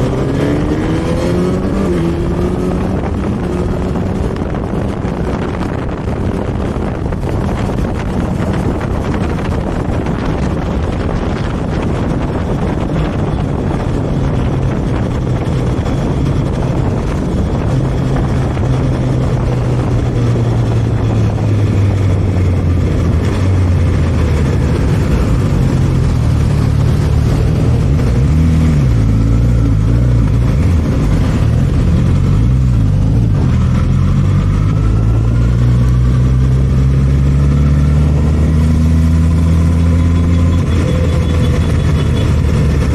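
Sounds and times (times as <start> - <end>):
motorcycle engine running: 0.0 - 42.9
wind rush: 0.0 - 42.9.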